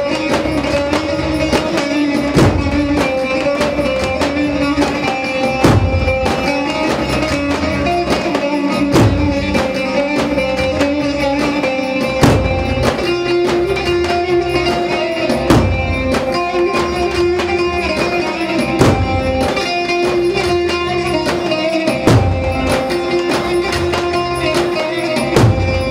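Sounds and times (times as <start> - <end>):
band playing folk dance tune: 0.0 - 25.9
heavy low drum beat: 0.4 - 21.0, 21.9 - 24.5, 25.3 - 25.9.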